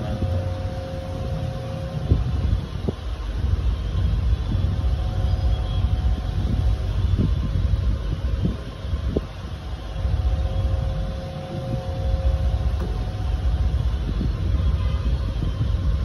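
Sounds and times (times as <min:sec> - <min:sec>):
air noise rumble on microphone: 0:00.0 - 0:16.0.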